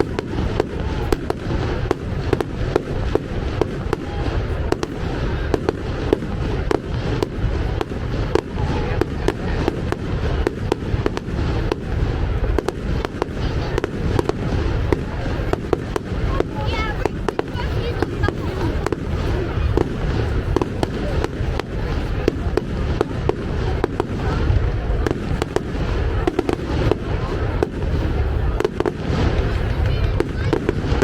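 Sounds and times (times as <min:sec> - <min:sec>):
fireworks bangs: 0:00.0 - 0:31.0
heavy low rumble: 0:00.0 - 0:31.0.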